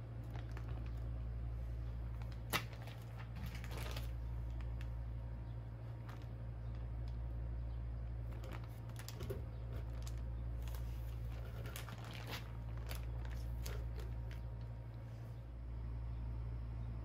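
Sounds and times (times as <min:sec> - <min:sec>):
plastic bags crinkling: 0:00.0 - 0:07.4, 0:08.1 - 0:15.1
steady low hum: 0:00.0 - 0:17.0.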